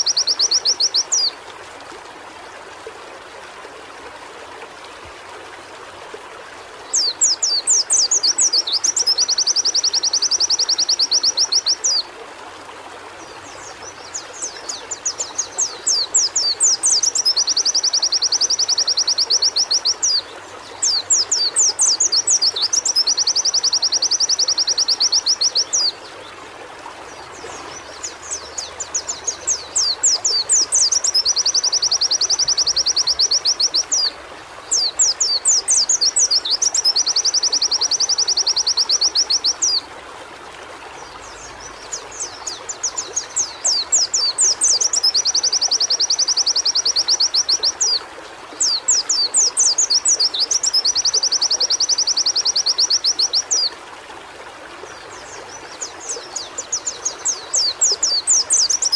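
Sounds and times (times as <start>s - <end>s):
white-eye bird singing: 0.0s - 1.4s, 6.9s - 12.0s, 13.2s - 26.2s, 27.1s - 39.8s, 41.0s - 48.0s, 48.6s - 53.7s, 55.1s - 58.9s.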